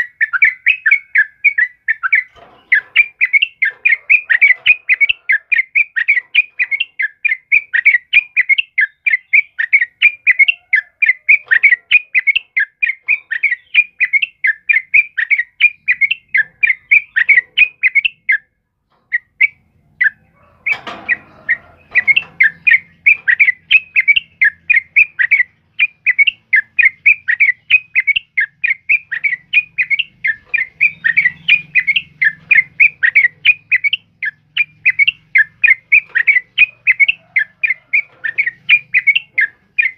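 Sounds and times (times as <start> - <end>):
bird calling in sharp chirps: 0.0 - 39.9.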